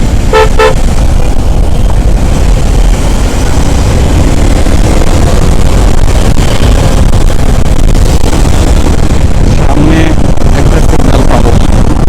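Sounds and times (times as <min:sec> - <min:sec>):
motorcycle engine rumble: 0:00.0 - 0:12.0
road noise: 0:00.0 - 0:12.0.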